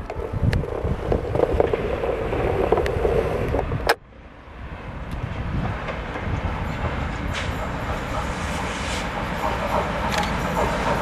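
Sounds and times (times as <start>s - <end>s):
passenger train rumbling past: 0.0s - 11.0s.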